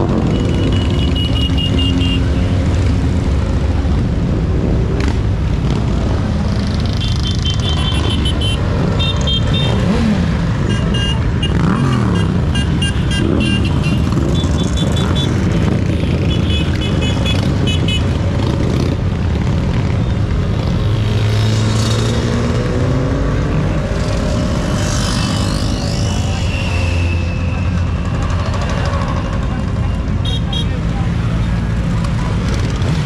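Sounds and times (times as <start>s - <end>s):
motorcycles riding past: 0.0s - 33.0s.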